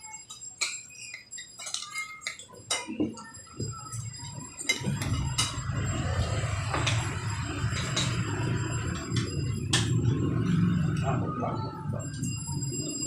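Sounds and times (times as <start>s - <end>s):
forks scraping on plates: 0.0s - 11.0s
glass bottles clinking: 0.0s - 13.0s.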